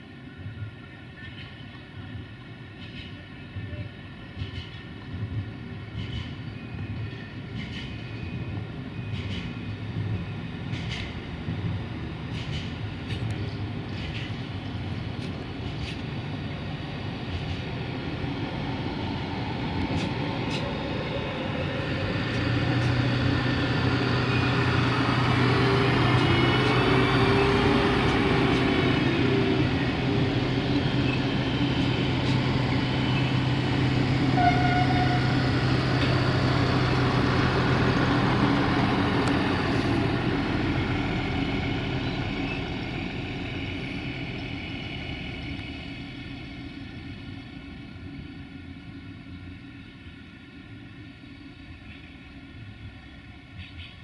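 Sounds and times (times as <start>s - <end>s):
diesel train engines humming: 0.0s - 54.0s
wheels rumbling on rails: 0.0s - 54.0s.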